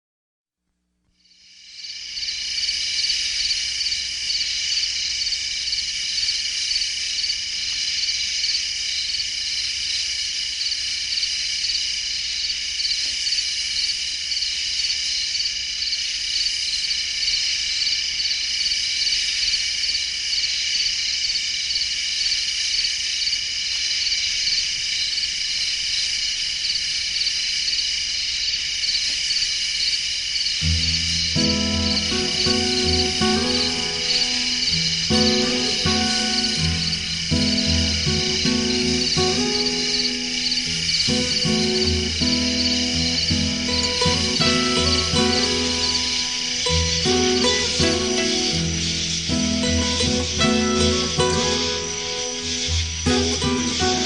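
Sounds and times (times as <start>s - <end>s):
crickets and insects trilling: 1.2s - 54.0s.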